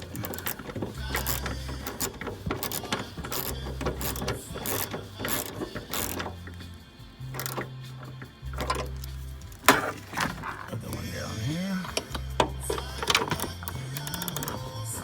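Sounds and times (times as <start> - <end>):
ratchet wrench clicking: 0.0 - 9.7, 11.9 - 15.0.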